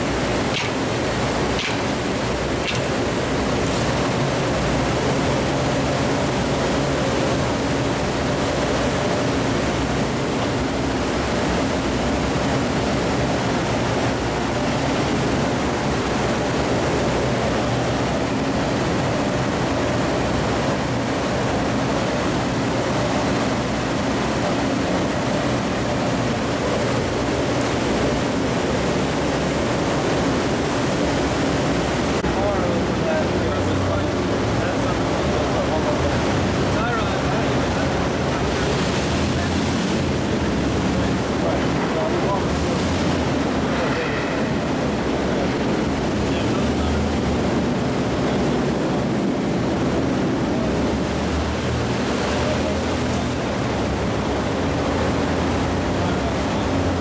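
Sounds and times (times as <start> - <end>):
low machine hum: 0.0 - 57.0
steady rushing noise: 0.0 - 57.0.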